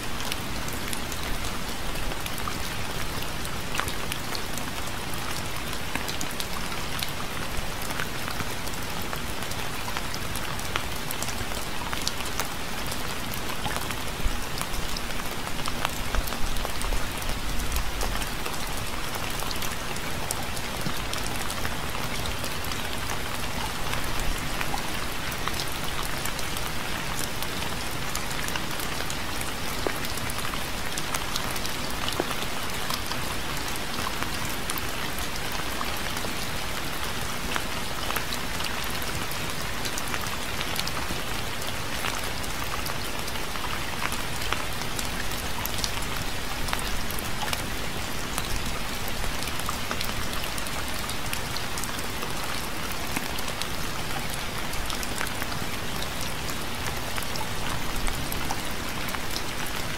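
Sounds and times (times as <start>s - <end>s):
steady rain with drops ticking: 0.0s - 59.9s.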